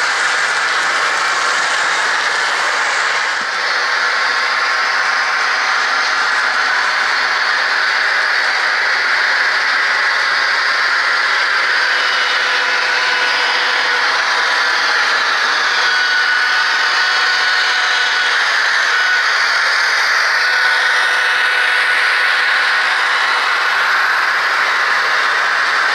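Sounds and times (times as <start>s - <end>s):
faint high motor whine: 0.0s - 25.9s
model train whirring on track: 0.0s - 25.9s.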